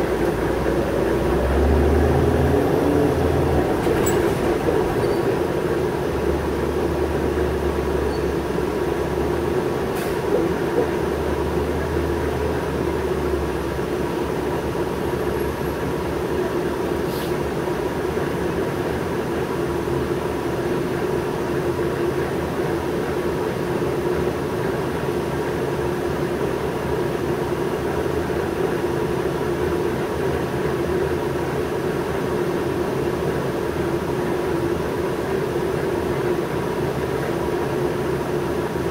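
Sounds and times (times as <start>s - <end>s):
bus engine idling hum: 0.0s - 38.9s
bus engine rumble: 0.0s - 38.9s.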